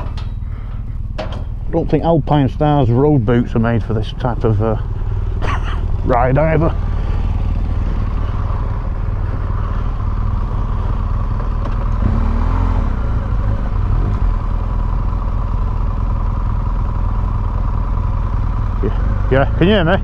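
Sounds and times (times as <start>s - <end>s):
motorcycle engines idling: 0.0s - 20.0s.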